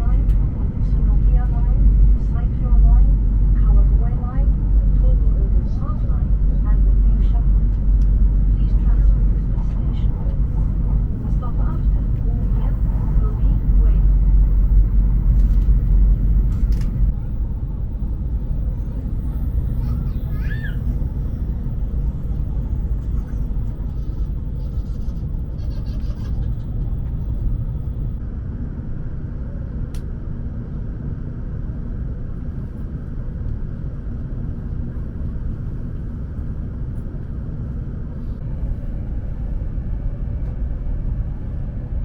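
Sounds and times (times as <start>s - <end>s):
train running at speed: 0.0s - 42.0s.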